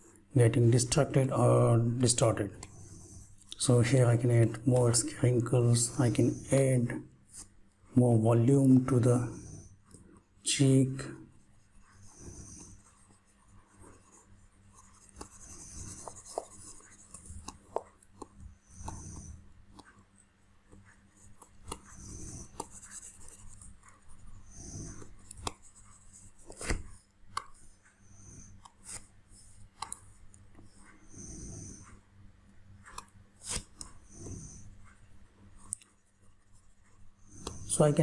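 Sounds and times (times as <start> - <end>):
stylus scratching on tablet: 0.0 - 38.0.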